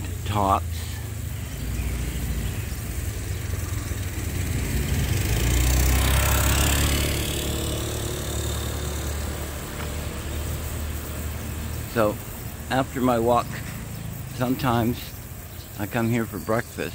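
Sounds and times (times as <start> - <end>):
low traffic engine rumble: 0.0 - 16.9
vehicle passing close: 0.0 - 16.9.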